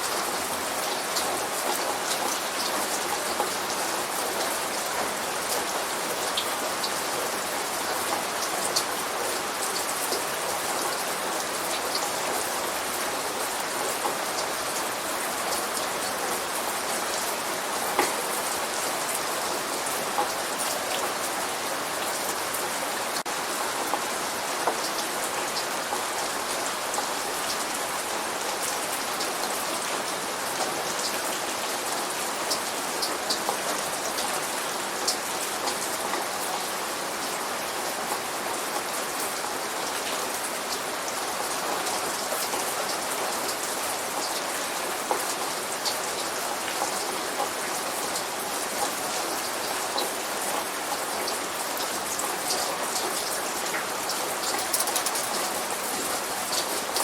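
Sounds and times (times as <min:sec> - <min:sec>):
light rain hiss: 0:00.0 - 0:57.0
raindrops ticking on a surface: 0:00.1 - 0:57.0.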